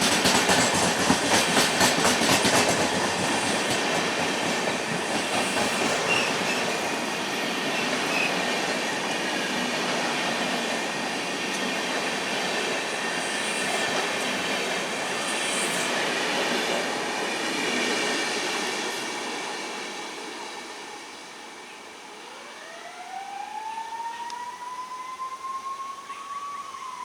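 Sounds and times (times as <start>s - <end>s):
train wheels rushing on rail: 0.0s - 22.6s.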